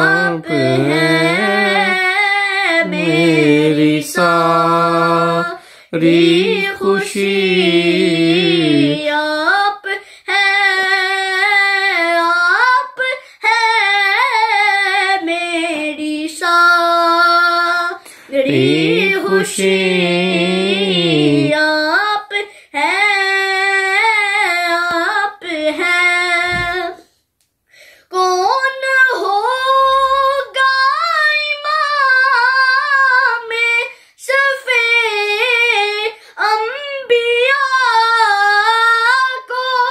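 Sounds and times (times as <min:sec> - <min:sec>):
boy singing unaccompanied: 0:00.0 - 0:27.1, 0:28.1 - 0:39.9.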